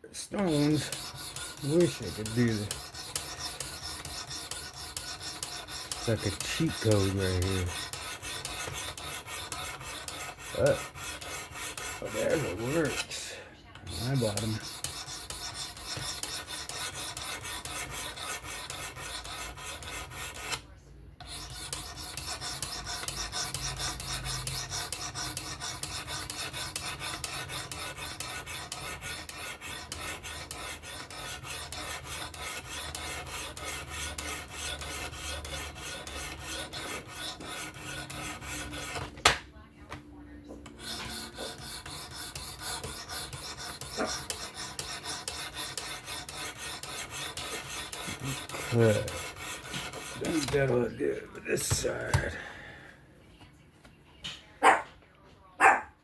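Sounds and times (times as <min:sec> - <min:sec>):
sharpening stone scraping knife edge: 0:00.4 - 0:13.2, 0:13.8 - 0:20.6, 0:21.2 - 0:39.1, 0:40.6 - 0:50.8.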